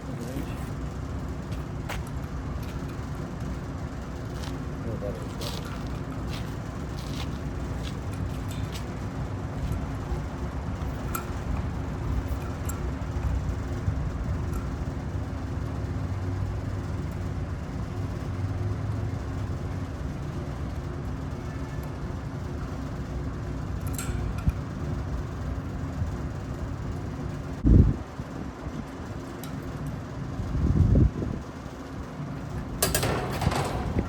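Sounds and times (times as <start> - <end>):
low mechanical hum and rumble: 0.0 - 34.0.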